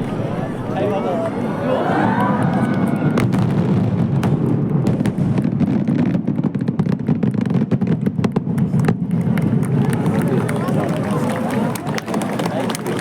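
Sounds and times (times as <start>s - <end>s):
fireworks rumbling and crackling: 0.0s - 13.0s.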